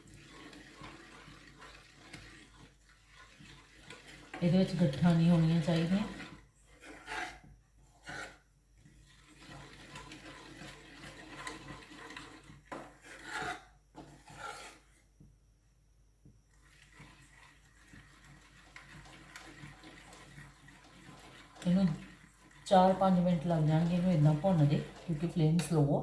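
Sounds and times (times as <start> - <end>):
utensil scraping and stirring in pan: 0.0 - 15.2, 16.5 - 26.0.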